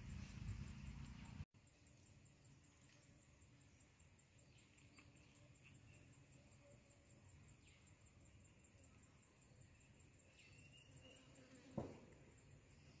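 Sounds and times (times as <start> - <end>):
insect chirping in fast pulses: 0.0 - 13.0.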